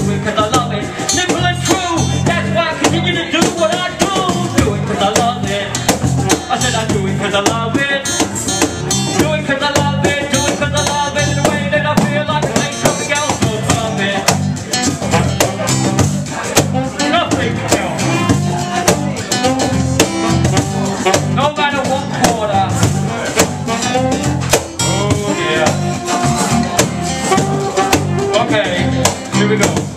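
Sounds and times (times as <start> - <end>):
electric bass groove: 0.0 - 29.9
man rapping into a microphone: 0.0 - 29.9
percussion: 0.0 - 29.9
strummed acoustic guitar: 0.0 - 29.9.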